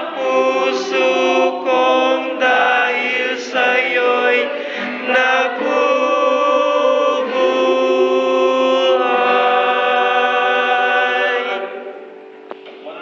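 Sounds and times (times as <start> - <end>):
choir singing in harmony: 0.0 - 12.4.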